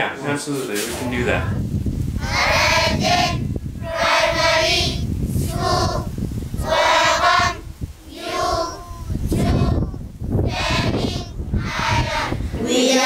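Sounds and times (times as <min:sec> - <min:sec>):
wind rumbling on microphone: 0:00.8 - 0:13.0
children singing: 0:02.2 - 0:13.0.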